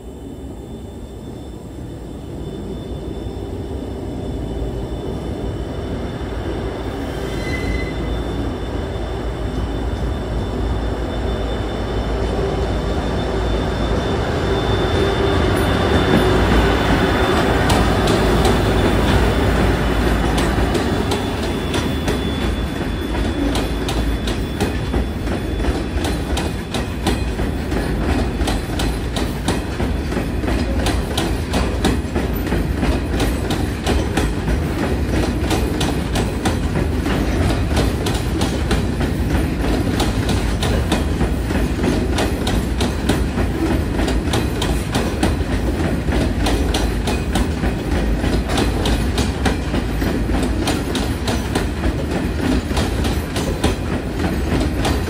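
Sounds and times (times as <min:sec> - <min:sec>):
diesel locomotive engines: 0:00.0 - 0:55.0.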